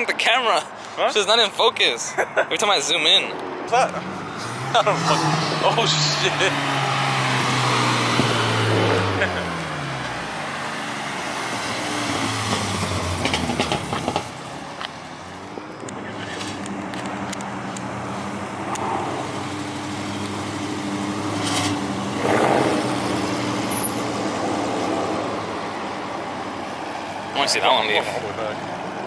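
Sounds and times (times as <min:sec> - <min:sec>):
car engines running: 0:00.0 - 0:29.0.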